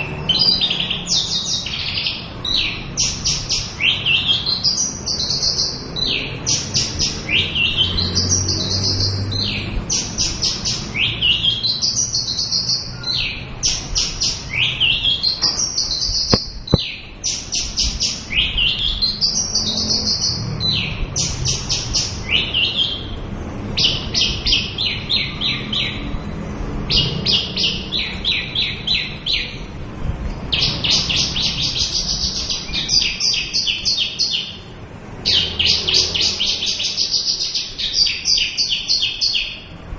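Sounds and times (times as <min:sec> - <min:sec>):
bird singing: 0:00.0 - 0:39.8.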